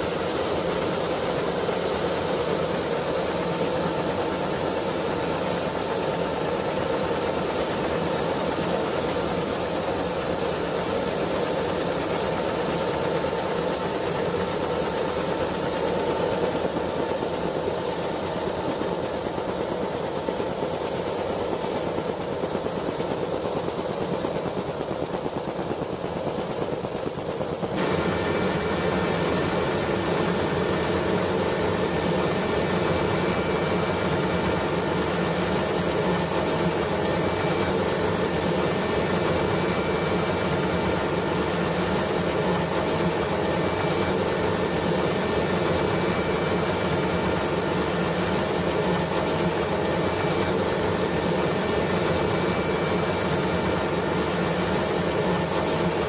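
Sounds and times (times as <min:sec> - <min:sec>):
faint high whine: 0:00.0 - 0:56.0
steady mechanical noise: 0:00.0 - 0:56.0.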